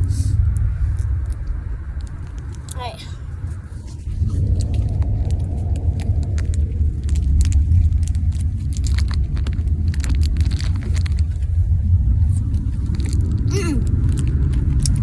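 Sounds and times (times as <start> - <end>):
low rumble of moving car: 0.0 - 15.0.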